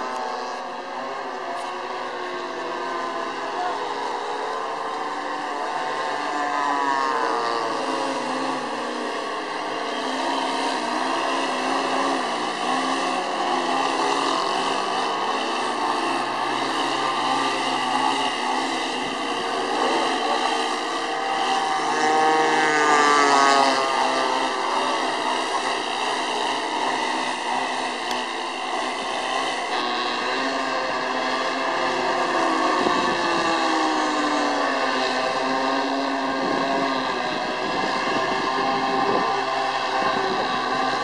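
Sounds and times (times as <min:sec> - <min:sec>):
model aeroplane engines buzzing: 0:00.0 - 0:41.0.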